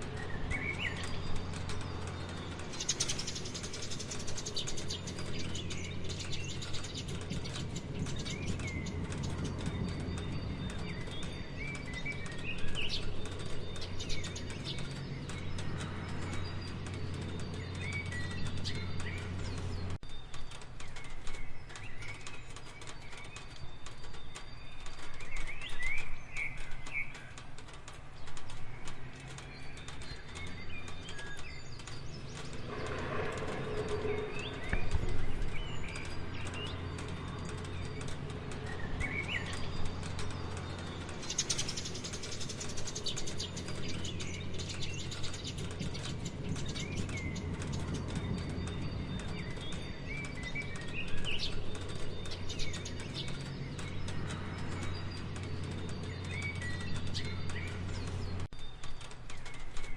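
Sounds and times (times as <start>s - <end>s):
birds chirping: 0.0s - 59.9s
raindrops tapping: 0.0s - 59.9s.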